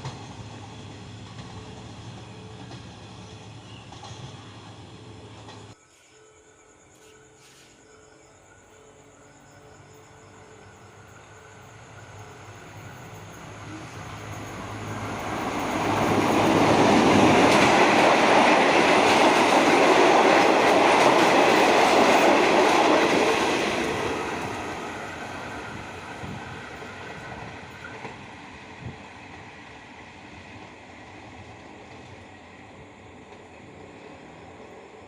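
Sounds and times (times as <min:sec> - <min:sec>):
train wheels rolling past: 0:00.0 - 0:06.2, 0:06.8 - 0:35.0.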